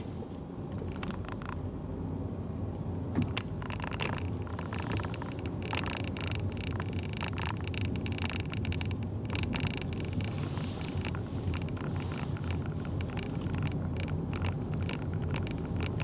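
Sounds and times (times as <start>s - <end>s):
car engine and road rumble: 0.0s - 16.0s
short clicks and rattles: 0.8s - 1.7s, 3.2s - 16.0s.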